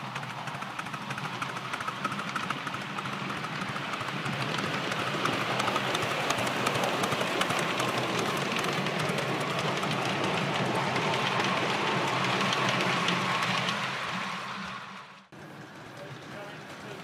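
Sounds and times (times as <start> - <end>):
wheels clicking on rails: 0.0 - 17.0.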